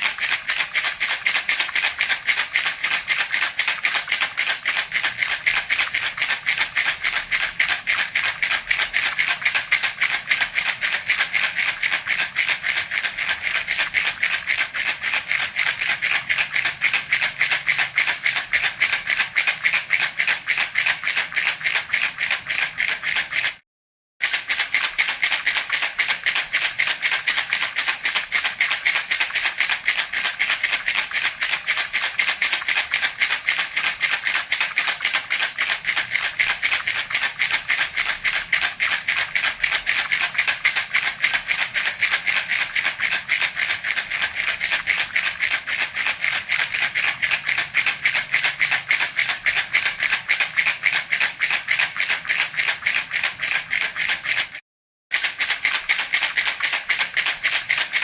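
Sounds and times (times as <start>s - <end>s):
baby rattle shaken: 0.0s - 23.6s, 24.2s - 54.6s, 55.2s - 58.0s.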